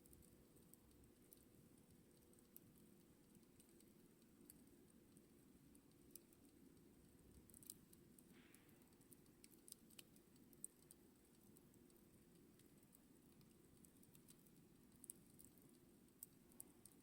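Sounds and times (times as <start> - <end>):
low steady background hum: 0.0 - 17.0
soft hiss: 0.0 - 17.0.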